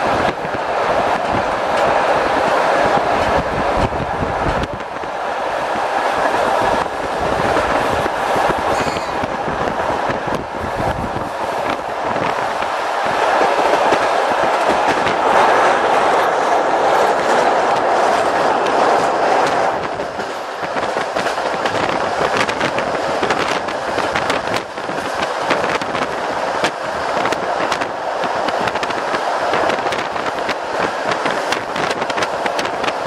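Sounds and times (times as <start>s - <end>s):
train rolling noise: 0.0s - 33.0s.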